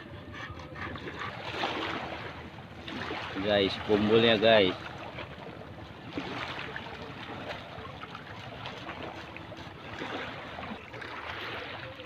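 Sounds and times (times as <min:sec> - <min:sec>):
small waves lapping: 0:00.0 - 0:12.0
wind: 0:00.0 - 0:12.0.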